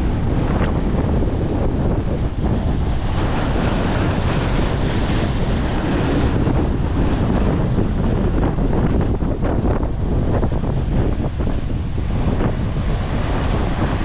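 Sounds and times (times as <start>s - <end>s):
waves washing: 0.0s - 14.0s
wind buffeting microphone: 0.0s - 14.0s.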